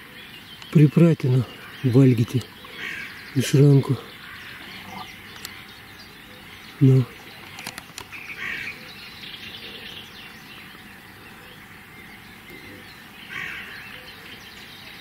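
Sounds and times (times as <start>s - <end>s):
bird calls: 0.0s - 15.0s
faint bird chirping: 0.0s - 15.0s.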